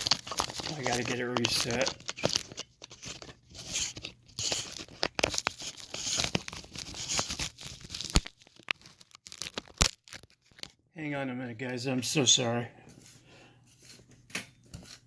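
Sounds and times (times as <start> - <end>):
handling rustling and scraping: 0.0 - 10.8, 12.0 - 15.0.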